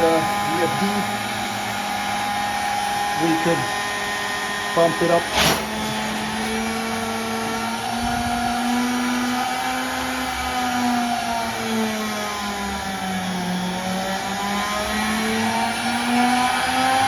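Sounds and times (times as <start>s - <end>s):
spindle motor whining: 0.0s - 17.0s.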